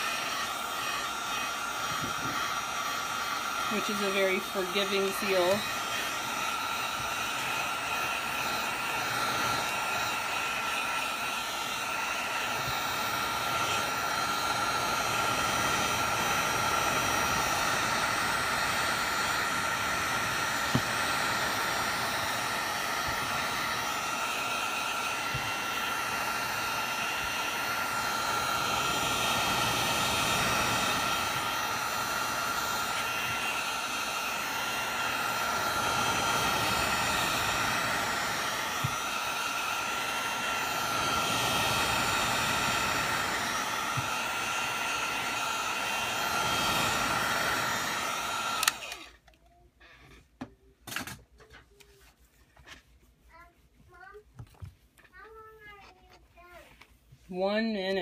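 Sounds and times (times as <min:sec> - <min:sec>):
heat gun blowing air: 0:00.0 - 0:49.2.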